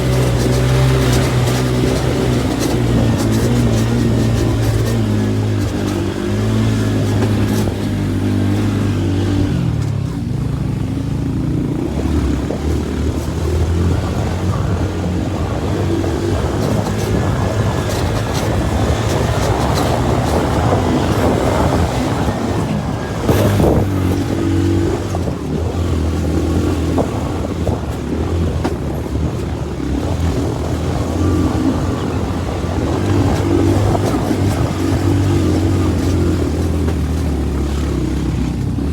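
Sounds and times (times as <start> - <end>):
rough rushing noise: 0.0 - 10.1, 11.1 - 38.9
motorcycle engine climbing: 0.0 - 38.9.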